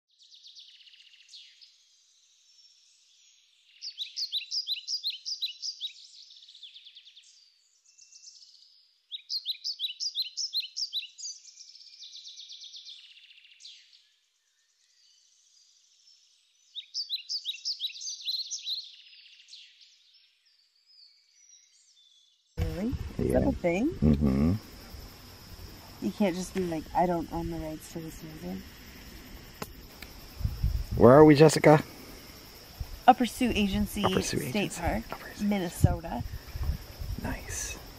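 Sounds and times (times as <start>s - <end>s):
songbird chirping: 0.1s - 37.9s.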